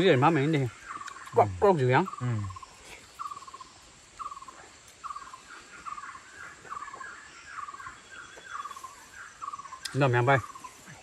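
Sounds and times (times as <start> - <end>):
faint high insect whine: 0.0 - 11.0.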